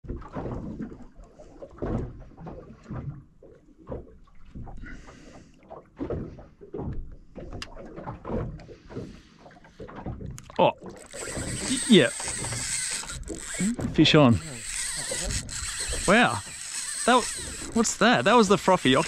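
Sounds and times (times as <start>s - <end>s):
waves lapping against boat hull: 0.0s - 19.0s.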